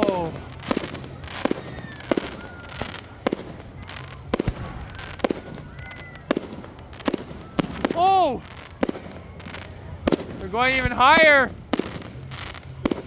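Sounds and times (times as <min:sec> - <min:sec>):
fireworks booming overhead: 0:00.0 - 0:13.0.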